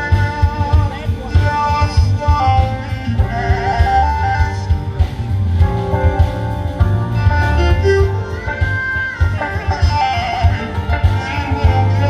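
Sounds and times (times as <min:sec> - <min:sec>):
bass guitar: 0:00.0 - 0:12.0
drum kit: 0:00.0 - 0:12.0
electric guitar: 0:00.0 - 0:12.0
keyboards: 0:00.0 - 0:12.0.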